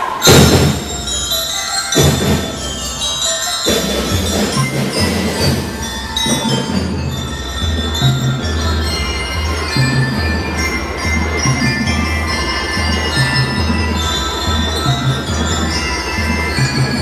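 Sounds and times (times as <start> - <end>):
bell lyres playing melody: 0.0 - 17.0
drums beating: 0.0 - 17.0.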